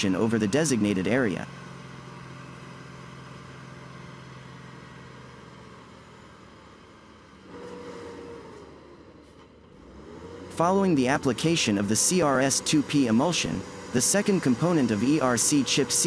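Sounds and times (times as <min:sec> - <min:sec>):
engine with descending whine: 0:00.0 - 0:16.0
truck diesel engine running: 0:00.0 - 0:16.0.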